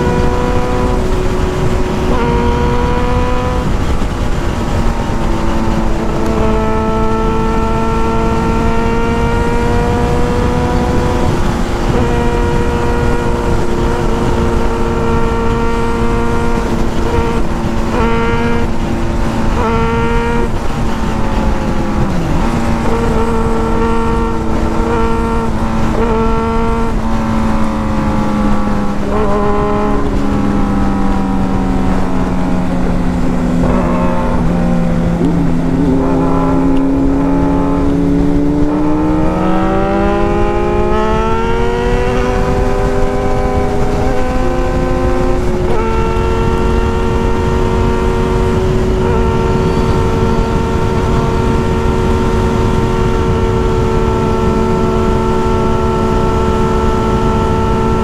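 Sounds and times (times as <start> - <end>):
heavy wind noise: 0.0 - 58.0
motorcycle engine: 0.0 - 58.0
road noise: 0.0 - 58.0.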